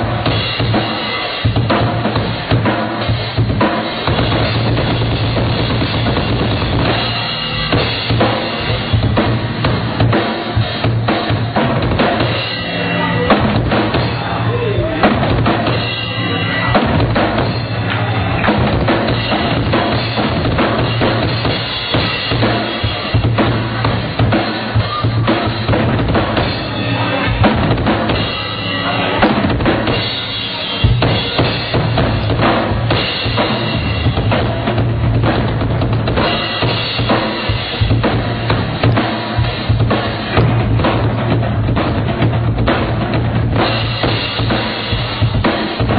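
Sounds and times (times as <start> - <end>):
drum kit playing: 0.0 - 45.9.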